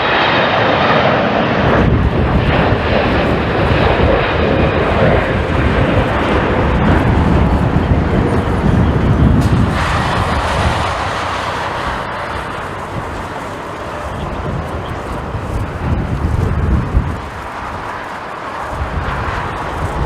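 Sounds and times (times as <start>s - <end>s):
jet airliner engines rumbling: 0.0s - 20.0s
wind buffeting microphone: 0.0s - 20.0s.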